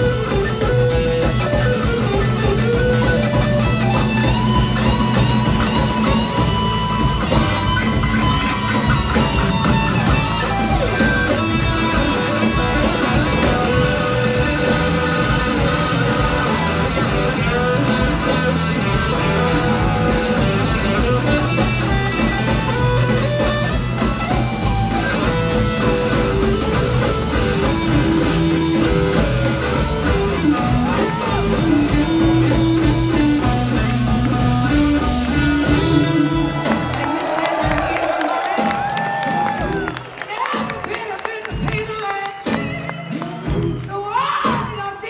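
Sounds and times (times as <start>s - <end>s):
electric guitar lines: 0.0s - 37.1s
live blues-rock band: 0.0s - 45.0s.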